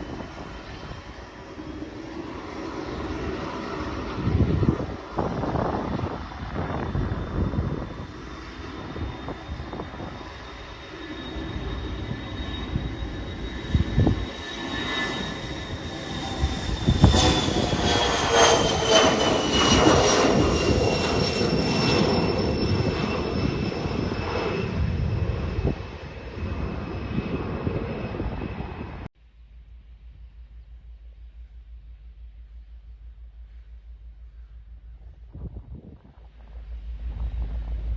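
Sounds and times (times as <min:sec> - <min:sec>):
jet engine rumble: 0:00.0 - 0:37.9
jet engine whine: 0:00.0 - 0:37.9.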